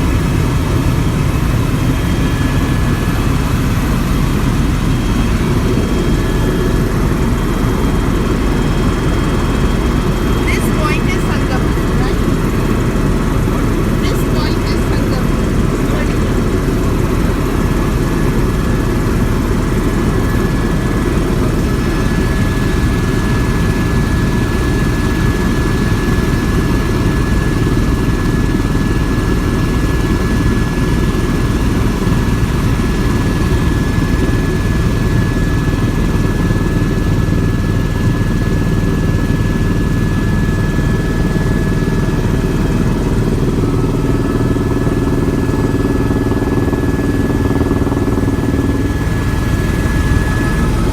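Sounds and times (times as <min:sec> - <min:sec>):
helicopter rotor and engine drone: 0:00.0 - 0:50.9.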